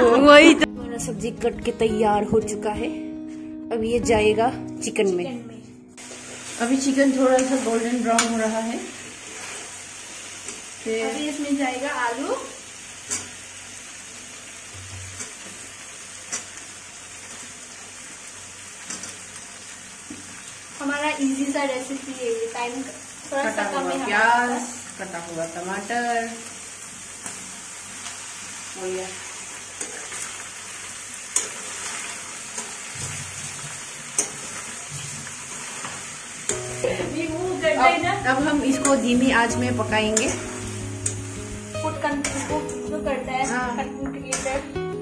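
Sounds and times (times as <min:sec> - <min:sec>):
chicken sizzling in hot oil: 0:06.0 - 0:44.6.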